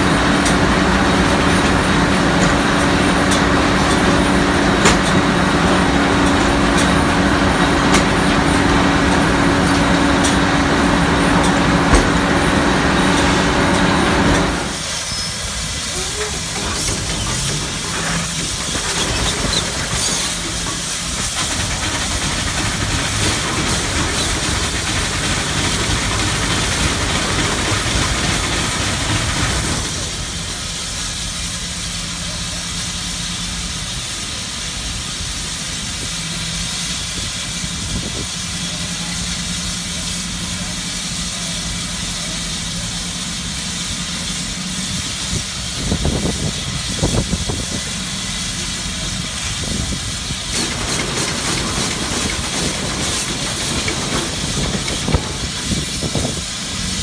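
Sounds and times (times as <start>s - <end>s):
steam engine hissing: 0.0s - 57.0s.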